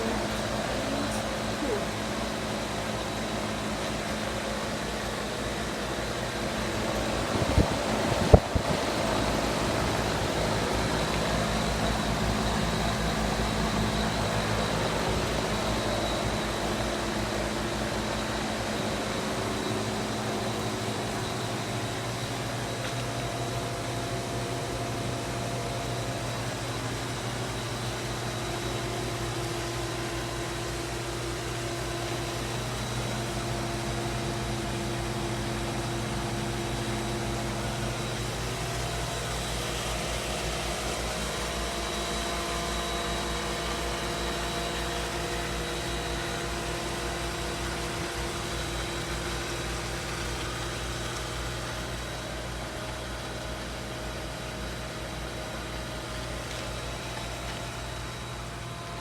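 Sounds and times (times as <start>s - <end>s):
fan air noise: 0.0s - 59.0s
hvac mechanical hum: 0.0s - 59.0s.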